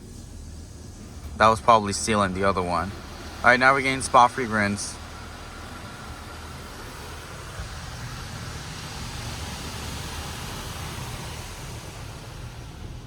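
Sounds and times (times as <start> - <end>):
car wash water spray hiss: 0.0 - 13.0
low rumble: 0.0 - 13.0.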